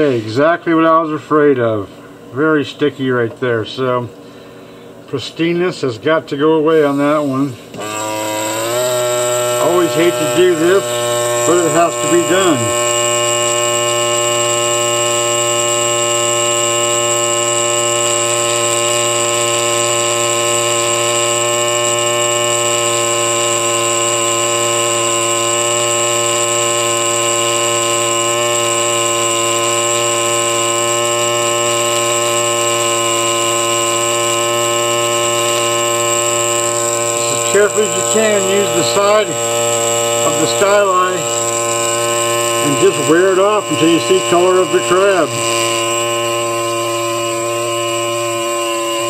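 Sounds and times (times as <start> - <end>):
air scribe buzzing: 0.0 - 1.2, 6.0 - 49.0.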